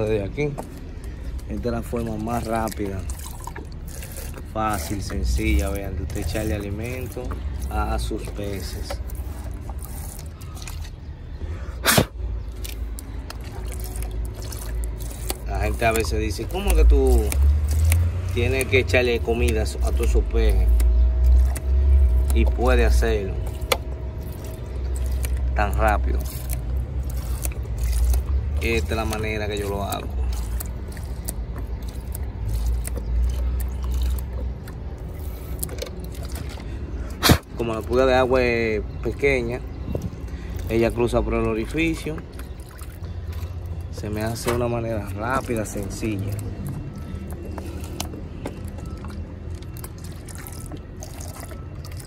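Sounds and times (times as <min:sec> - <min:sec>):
low steady rumble: 0:00.0 - 0:52.0
water pouring into container: 0:00.0 - 0:52.0.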